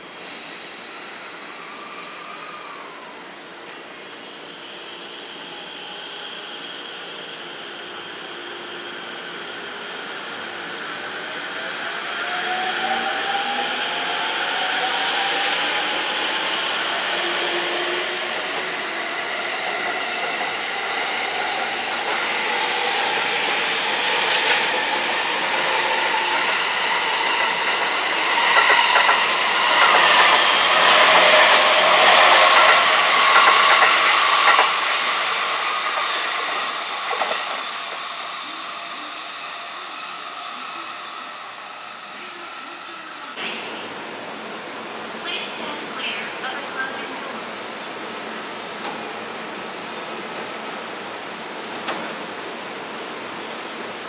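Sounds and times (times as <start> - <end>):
train passing: 5.4 - 54.0.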